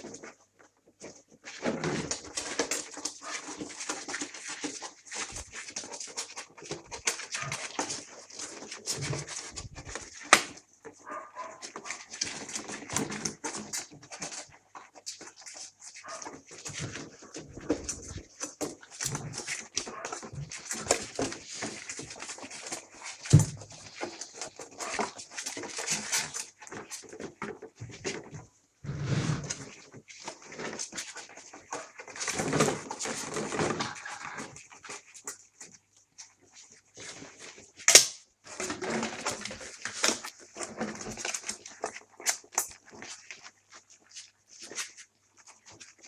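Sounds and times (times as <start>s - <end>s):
puppies chewing and smacking: 0.0s - 28.6s, 29.5s - 37.8s, 38.5s - 46.0s.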